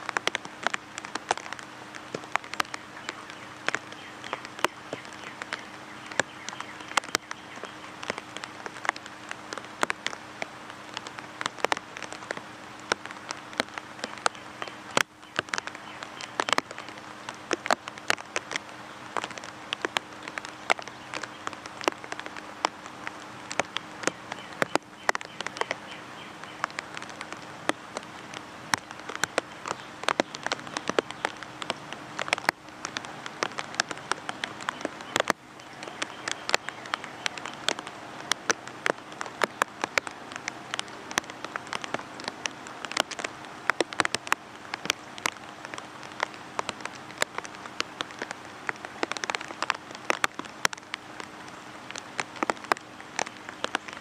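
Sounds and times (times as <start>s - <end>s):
faint steady hum: 0.0s - 54.0s
sharp raindrop taps: 0.0s - 54.0s
steady rain patter: 0.0s - 54.0s.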